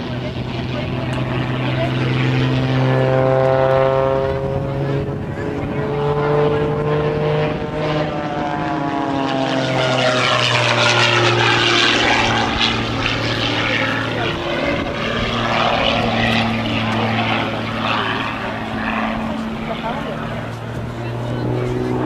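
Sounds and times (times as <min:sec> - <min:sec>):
propeller airplane flying past: 0:00.0 - 0:22.0.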